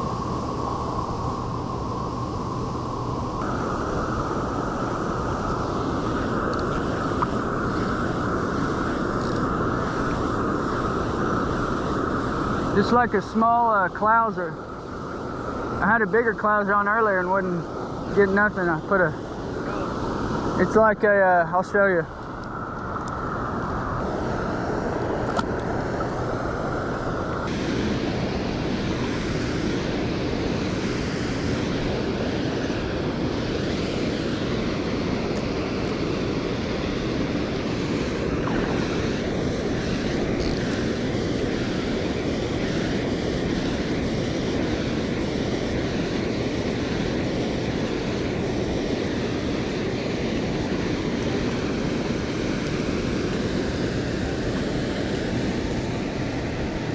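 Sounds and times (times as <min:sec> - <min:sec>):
rushing water from dam outflow: 0:03.6 - 0:22.1, 0:26.2 - 0:56.9.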